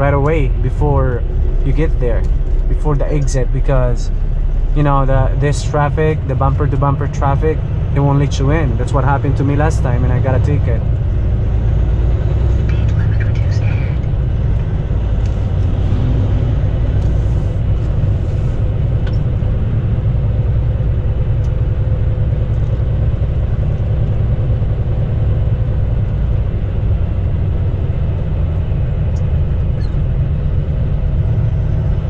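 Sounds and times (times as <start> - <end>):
truck engine and road rumble: 0.0 - 32.0.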